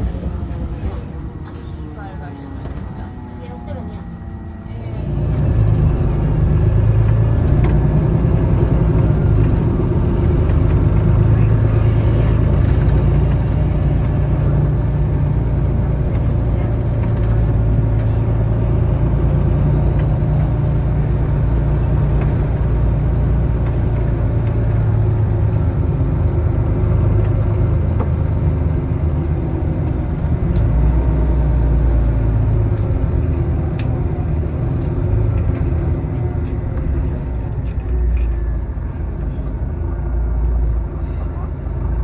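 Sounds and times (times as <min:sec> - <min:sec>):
bus engine and road rumble: 0:00.0 - 0:42.0.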